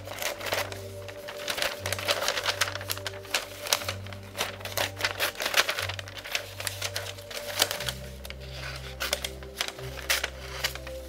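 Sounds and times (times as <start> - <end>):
paper handling: 0.0 - 11.0
scissors snipping newspaper: 0.0 - 11.0
soft background music: 0.0 - 11.0.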